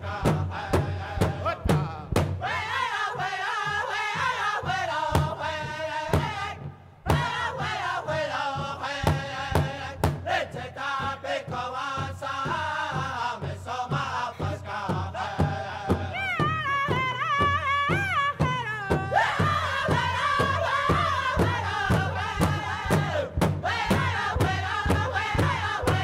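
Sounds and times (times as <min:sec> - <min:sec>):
steady drum beat: 0:00.0 - 0:26.0.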